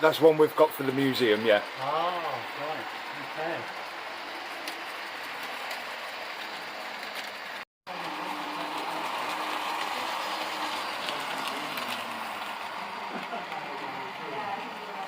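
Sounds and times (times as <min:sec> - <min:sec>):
train rail and wheel noise: 0:00.0 - 0:15.0.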